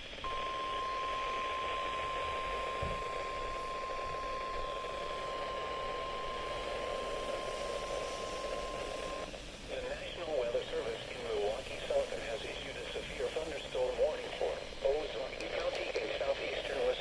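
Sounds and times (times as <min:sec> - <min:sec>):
steady alarm tone: 0:00.0 - 0:15.3
radio static hiss: 0:00.0 - 0:17.0.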